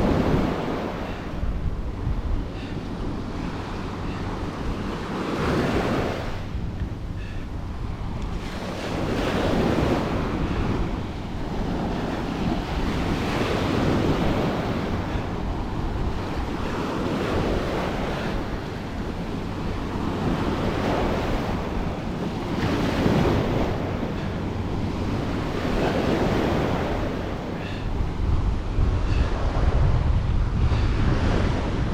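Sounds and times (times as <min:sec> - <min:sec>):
ocean waves breaking on a beach: 0:00.0 - 0:31.9.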